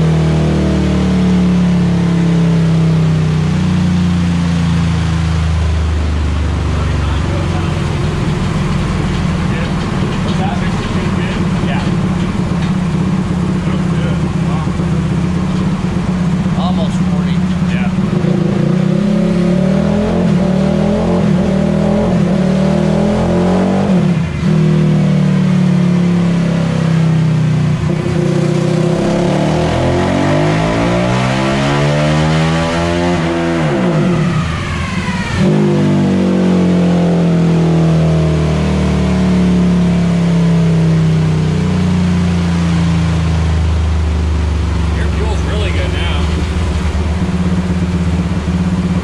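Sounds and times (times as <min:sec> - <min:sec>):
engine revving on a dyno: 0:00.0 - 0:49.0.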